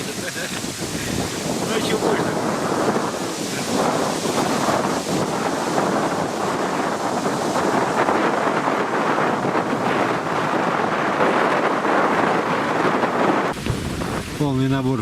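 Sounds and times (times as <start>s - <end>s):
gusty wind buffeting microphone: 0.0s - 15.0s
river waves washing around boat: 0.0s - 15.0s.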